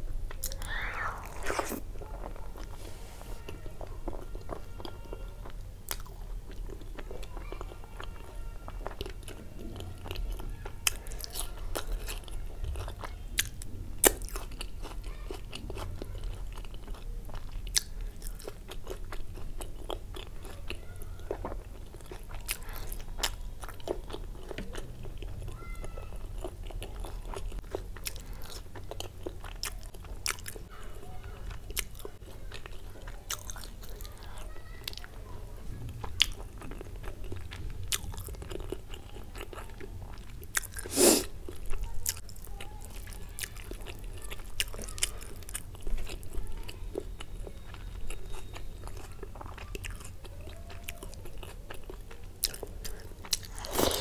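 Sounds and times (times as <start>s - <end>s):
person chewing soft food: 0.2s - 35.1s, 35.9s - 54.0s.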